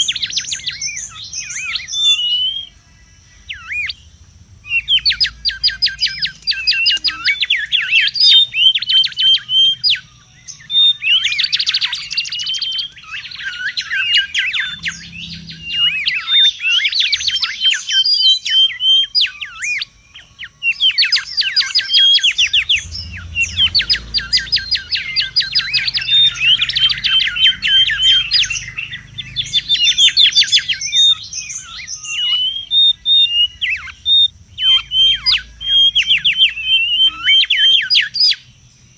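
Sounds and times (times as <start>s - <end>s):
faint low rumble: 0.0s - 17.8s, 19.2s - 38.9s
bird chattering: 0.0s - 38.9s.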